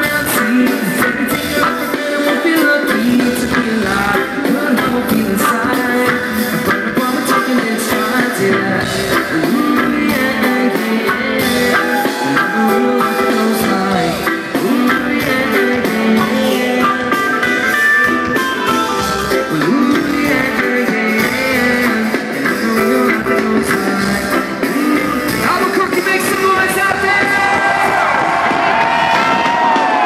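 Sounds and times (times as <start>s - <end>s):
drums: 0.0s - 30.0s
guitar: 0.0s - 30.0s.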